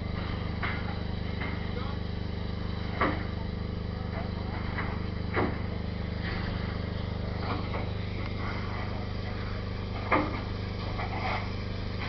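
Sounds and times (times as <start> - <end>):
steam engine humming: 0.0 - 12.0.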